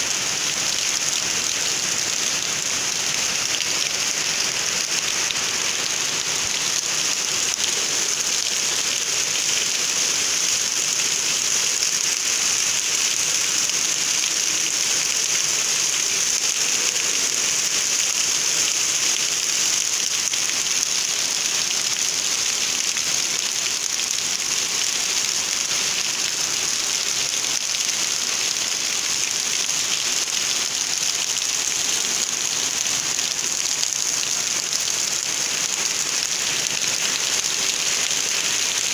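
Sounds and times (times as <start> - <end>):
heavy rain hissing on ground: 0.0 - 38.9.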